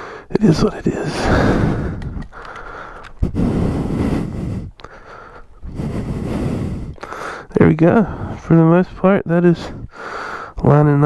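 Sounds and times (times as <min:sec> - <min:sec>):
man breathing heavily: 0:00.0 - 0:08.7, 0:09.5 - 0:10.6.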